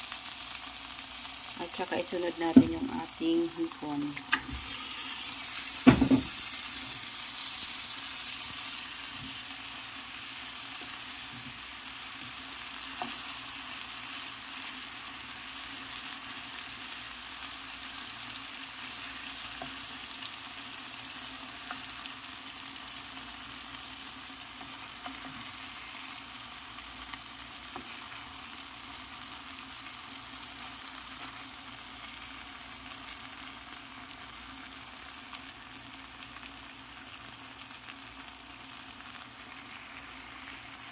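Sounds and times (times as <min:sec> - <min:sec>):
shrimp sizzling in a pan: 0:00.0 - 0:40.9.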